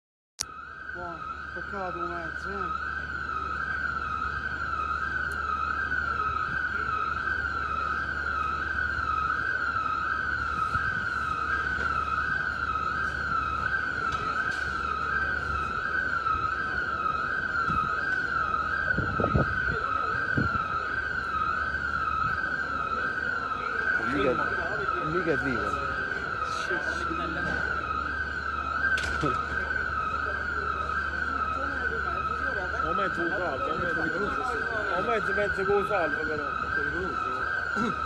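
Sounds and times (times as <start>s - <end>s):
electronic siren wailing: 0.4s - 38.0s.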